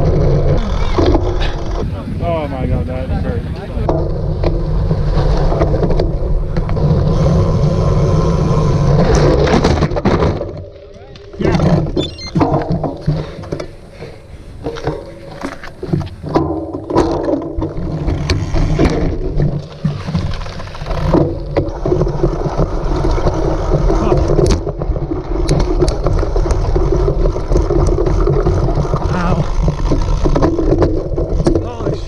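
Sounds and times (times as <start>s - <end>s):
bike rumbling over rough ground: 0.0s - 32.0s.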